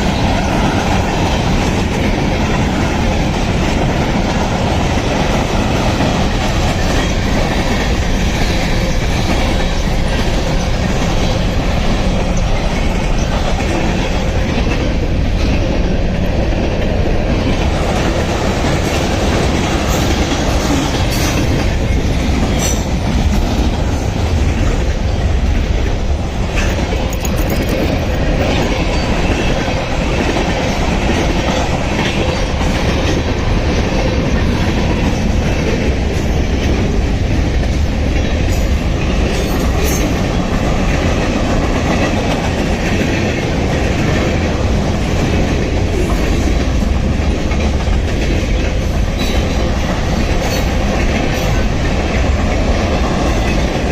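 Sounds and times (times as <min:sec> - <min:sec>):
freight train rumbling on rails: 0:00.0 - 0:53.9.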